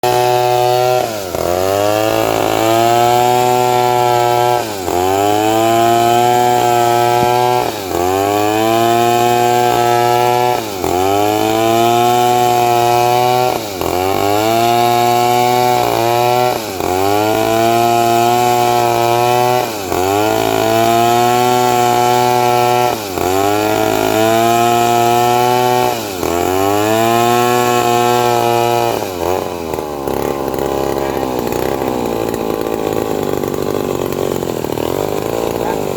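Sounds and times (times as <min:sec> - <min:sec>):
chainsaw cutting a log: 0:00.0 - 0:35.9.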